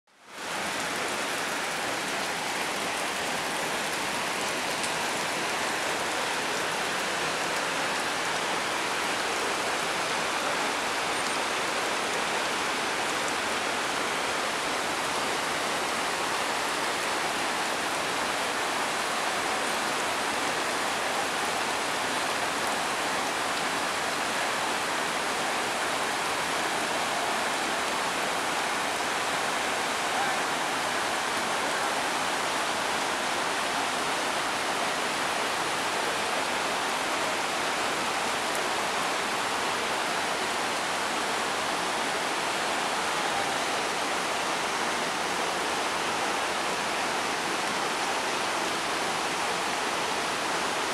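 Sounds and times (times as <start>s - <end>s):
waterfall rushing: 0.3s - 50.9s.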